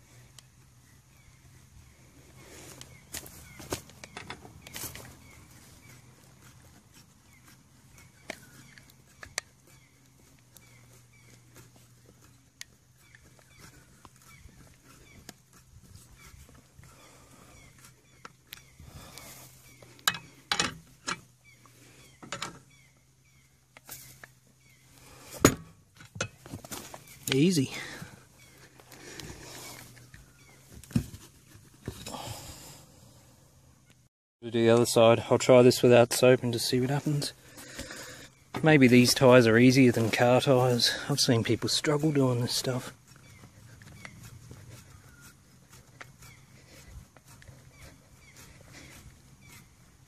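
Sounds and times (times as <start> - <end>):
bird chirping: 0.0 - 25.3, 26.3 - 30.8, 34.7 - 50.0.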